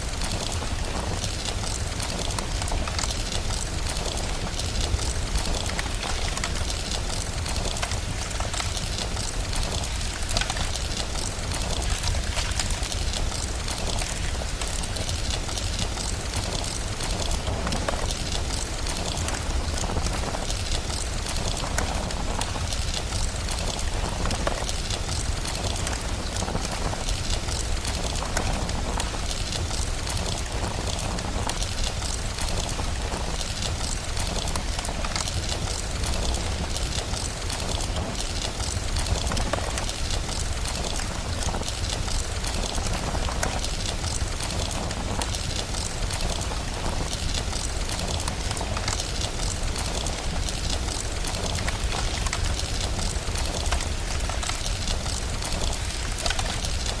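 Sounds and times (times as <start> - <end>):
crackling fireplace: 0.0 - 57.0
steady rain: 0.0 - 57.0.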